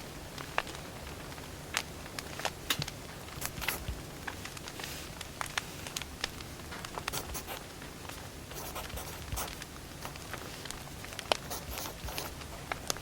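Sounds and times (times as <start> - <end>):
faint steady hiss: 0.0 - 13.0
wood fire crackling and popping: 0.0 - 13.0.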